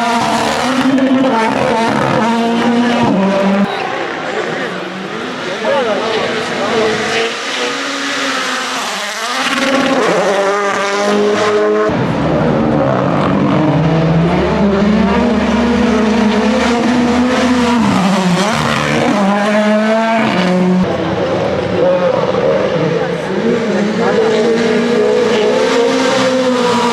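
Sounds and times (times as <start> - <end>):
rally car engine revving: 0.0 - 26.9.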